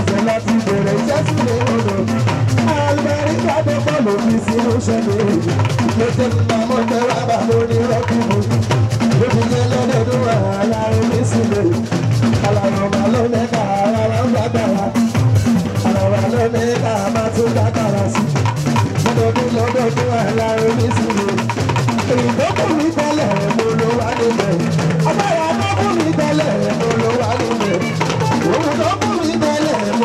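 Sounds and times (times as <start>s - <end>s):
drums and percussion: 0.0s - 30.0s
man singing into microphone: 0.0s - 30.0s.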